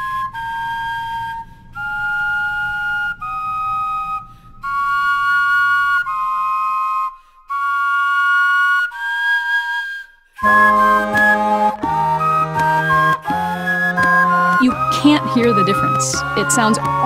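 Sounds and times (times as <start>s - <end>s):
flutes playing slow melody: 0.0s - 17.0s.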